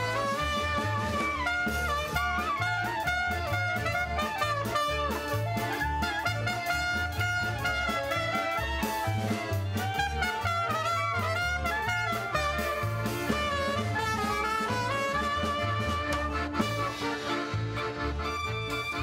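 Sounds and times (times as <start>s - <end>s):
klezmer band playing: 0.0s - 19.0s.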